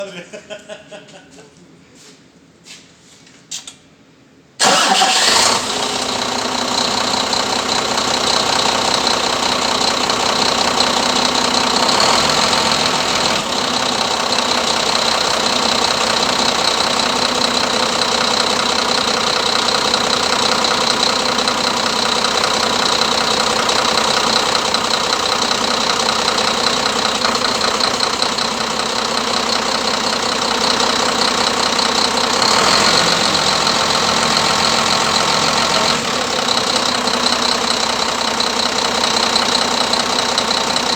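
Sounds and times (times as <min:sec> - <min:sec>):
diesel engine starting and idling: 0:04.6 - 0:40.9.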